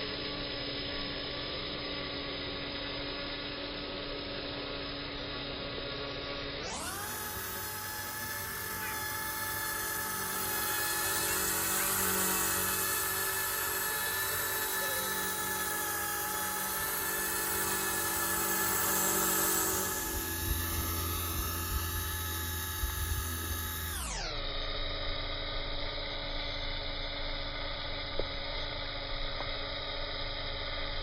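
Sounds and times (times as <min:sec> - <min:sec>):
rc helicopter motor whine: 0:00.0 - 0:31.0.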